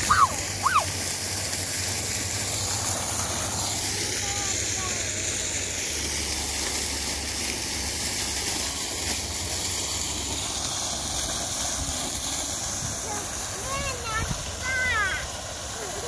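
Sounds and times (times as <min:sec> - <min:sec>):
fountain water splashing into basin: 0:00.0 - 0:16.0.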